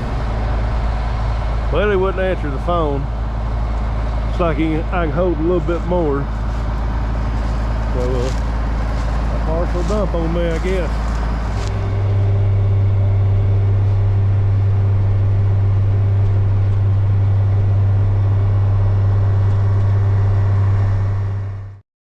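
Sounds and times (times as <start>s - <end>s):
tractor engine droning: 0.0s - 21.8s.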